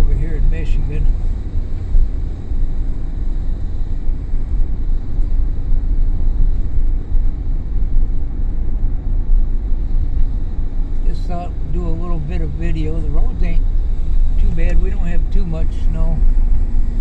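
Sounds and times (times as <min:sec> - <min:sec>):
vehicle engine and tyre noise: 0:00.0 - 0:17.0.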